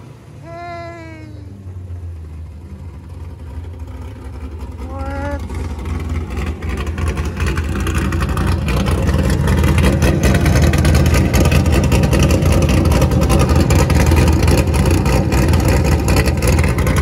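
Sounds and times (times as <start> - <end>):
car engine running through exhaust: 0.0 - 17.0.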